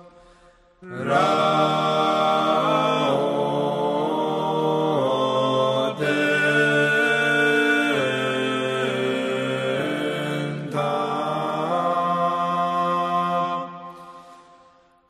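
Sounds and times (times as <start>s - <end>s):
choir singing chant: 0.8s - 14.8s.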